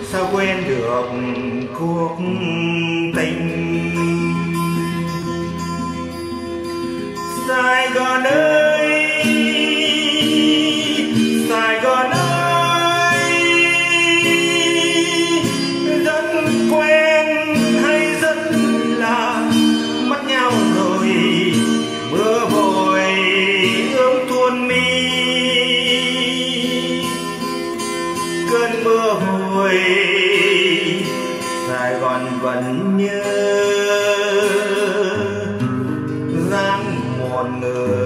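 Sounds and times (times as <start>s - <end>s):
acoustic guitar: 0.0s - 38.0s
person singing: 0.0s - 38.0s.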